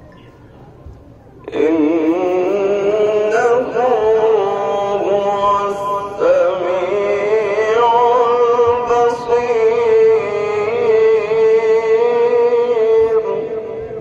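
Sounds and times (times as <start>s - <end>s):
man chanting: 1.4s - 14.0s.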